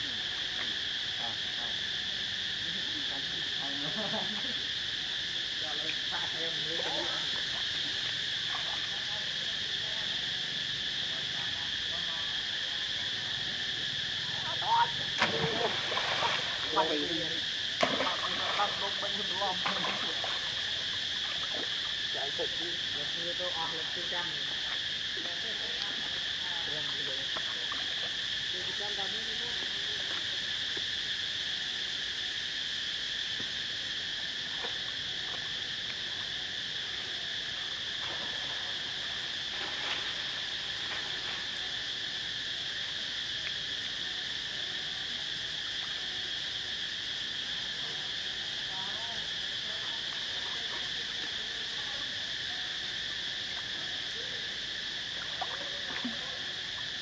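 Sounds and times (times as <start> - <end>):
shrill insect chorus: 0.0 - 57.0.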